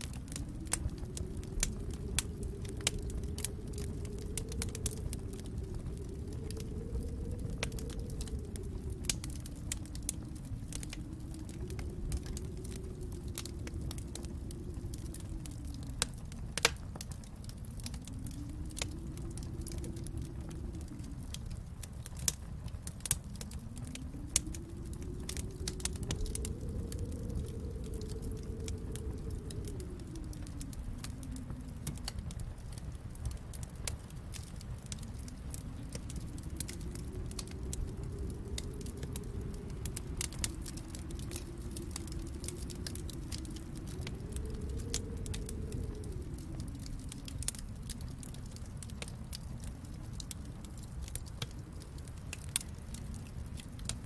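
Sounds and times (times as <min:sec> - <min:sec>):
low rumble: 0:00.0 - 0:54.0
wood fire crackling and popping: 0:00.0 - 0:54.0.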